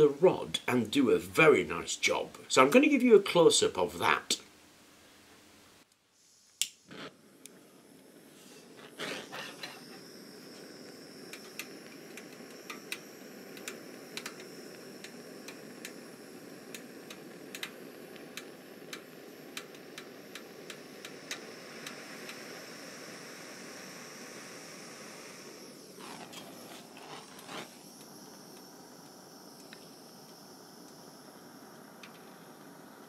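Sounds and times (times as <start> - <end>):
blowtorch hissing: 6.1 - 33.0.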